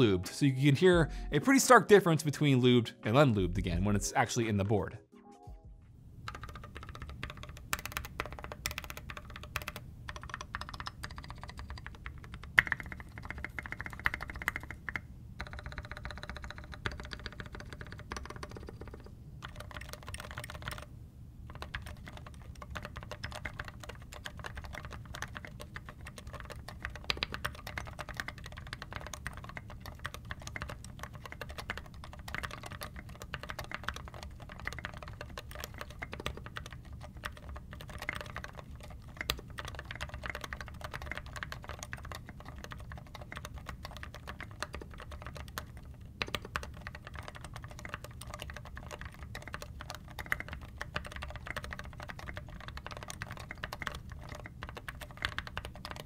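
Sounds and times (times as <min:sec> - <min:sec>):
fast typing on mechanical keyboard: 0:06.2 - 0:56.0.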